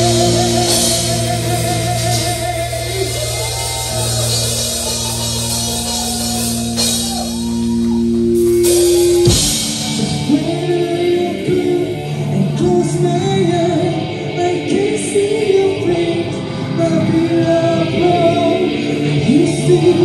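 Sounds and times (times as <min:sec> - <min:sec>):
person singing: 0:00.0 - 0:20.0
rock band playing: 0:00.0 - 0:20.0.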